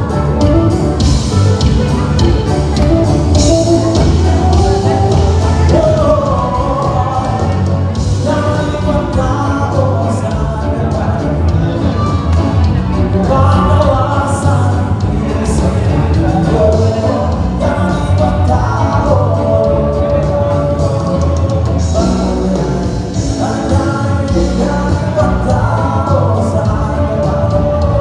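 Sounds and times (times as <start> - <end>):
lead vocalist singing: 0.0 - 28.0
live rock band playing: 0.0 - 28.0.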